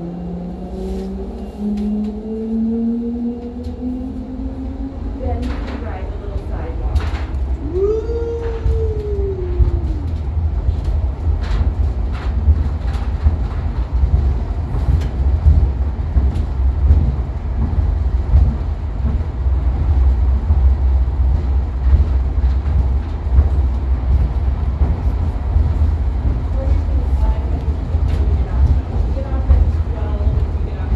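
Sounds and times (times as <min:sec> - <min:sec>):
tram low rumble: 0:00.0 - 0:30.9.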